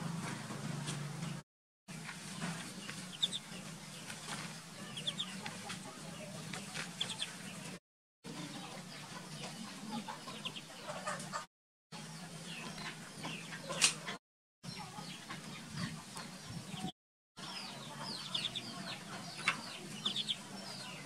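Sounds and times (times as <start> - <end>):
ducklings peeping: 1.0 - 21.0.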